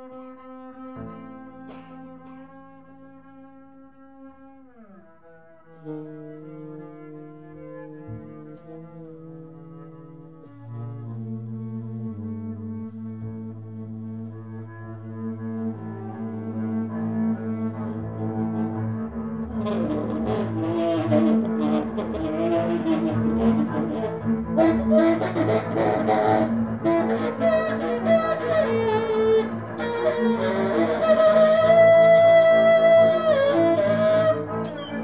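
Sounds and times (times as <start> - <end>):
bowed double bass: 0.0 - 35.0
tenor saxophone: 0.0 - 35.0.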